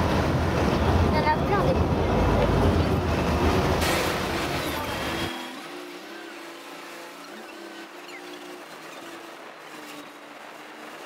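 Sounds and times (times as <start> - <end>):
motorboat engine running: 0.0 - 11.0
rushing water: 0.0 - 11.0.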